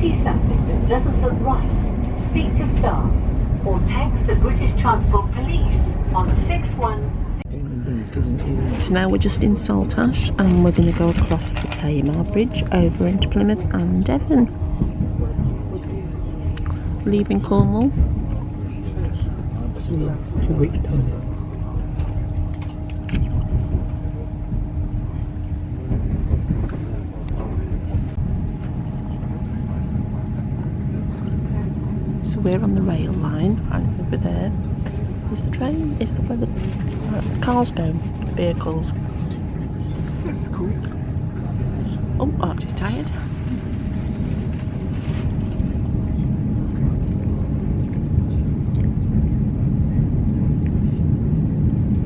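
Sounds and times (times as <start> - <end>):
constant hum: 0.0 - 52.0
train rumbling: 0.0 - 52.0.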